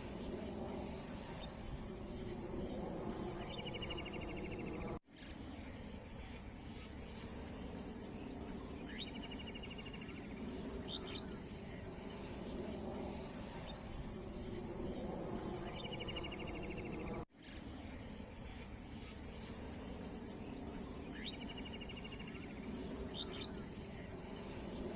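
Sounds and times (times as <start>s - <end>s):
faint bird chirps: 0.0s - 24.9s
insects trilling: 0.0s - 24.9s
low background rumble: 0.0s - 24.9s.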